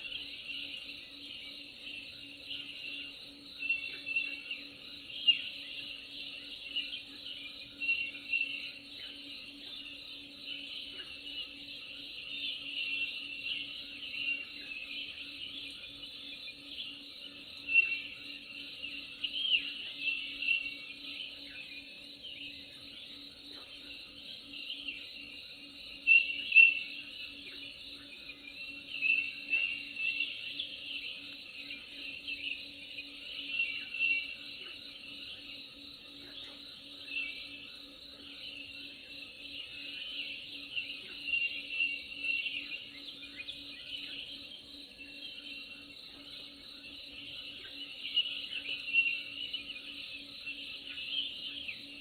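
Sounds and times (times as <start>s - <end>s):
birds chirping and whistling: 0.0s - 52.0s
pulsing insect or frog chorus: 0.0s - 52.0s.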